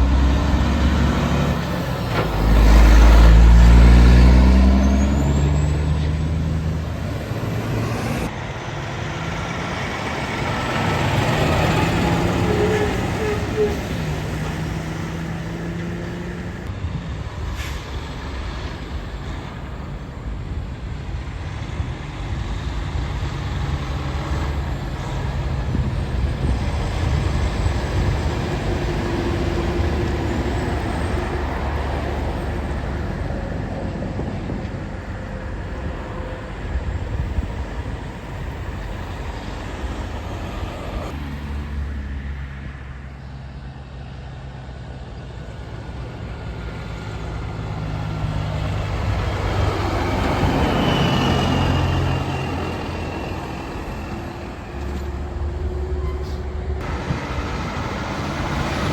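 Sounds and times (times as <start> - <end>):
diesel truck engines running: 0.0 - 58.9
road traffic noise: 0.0 - 58.9.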